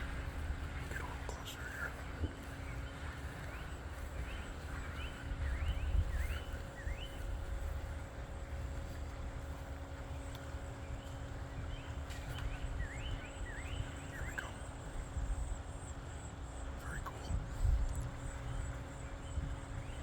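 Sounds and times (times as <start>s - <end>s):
low rumble: 0.0s - 20.0s
songbird chirping: 0.0s - 20.0s.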